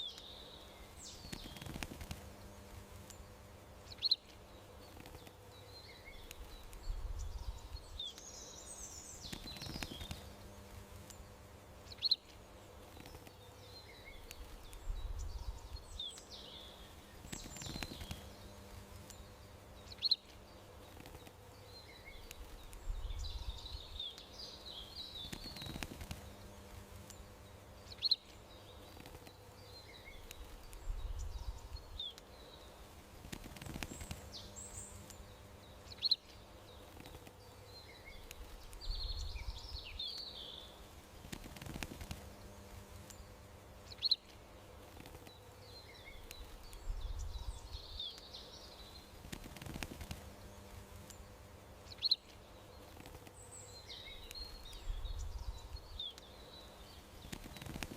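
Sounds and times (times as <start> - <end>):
faint background noise: 0.0 - 57.9
songbirds chirping: 0.0 - 57.9.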